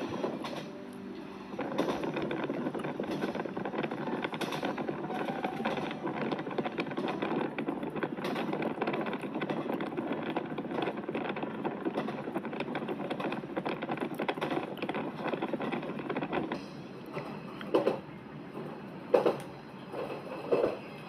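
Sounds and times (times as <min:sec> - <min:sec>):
train rattling and rumbling: 0:00.0 - 0:21.0.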